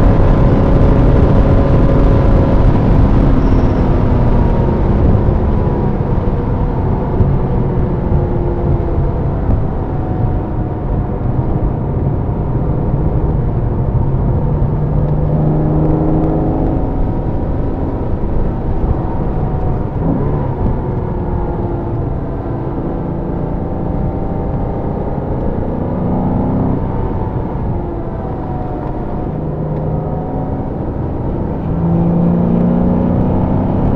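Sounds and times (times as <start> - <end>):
road and tyre noise: 0.0 - 33.9
sports car engine revving: 0.0 - 33.9.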